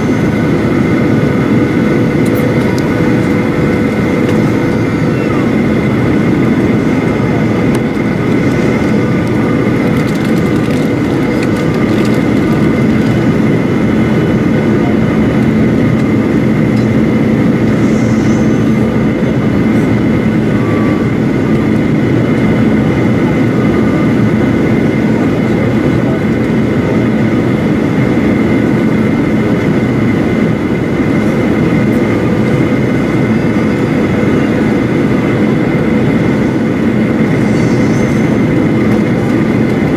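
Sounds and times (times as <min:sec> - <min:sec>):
airplane cabin engine hum: 0:00.0 - 0:39.9.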